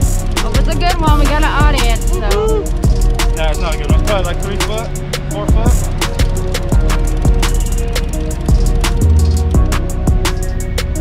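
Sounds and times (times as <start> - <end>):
background music with steady beat: 0.0 - 11.0
deep kick drums: 0.0 - 11.0
hi-hat ticks: 0.0 - 11.0.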